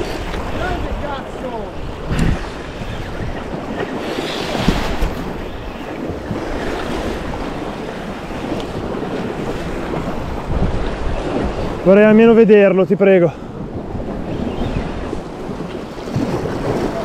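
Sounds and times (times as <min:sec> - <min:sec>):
surf washing against rocks: 0:00.0 - 0:17.0
wind buffeting microphone: 0:00.0 - 0:17.0.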